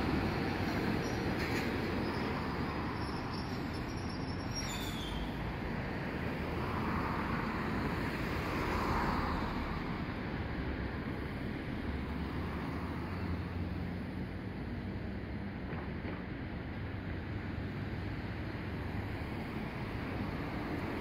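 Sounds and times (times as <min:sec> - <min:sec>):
cars passing close by: 0:00.0 - 0:21.0
road traffic: 0:00.0 - 0:21.0
streetcar running noise: 0:00.0 - 0:21.0.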